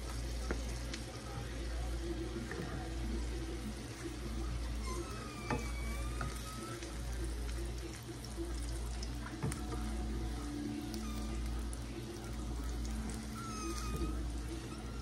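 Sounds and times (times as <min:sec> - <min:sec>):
sausages sizzling in frying pan: 0:00.0 - 0:15.0.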